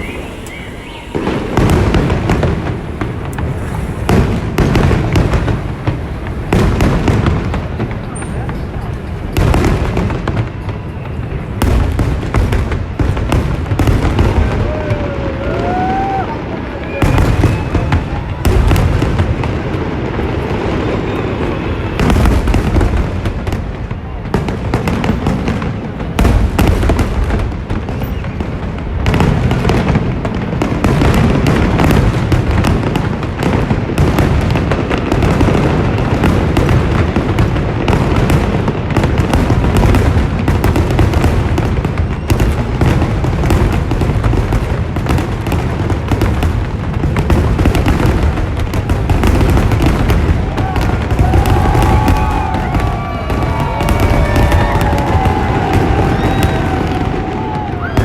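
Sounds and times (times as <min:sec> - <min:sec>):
fireworks bursts and booms: 0:00.0 - 0:58.0.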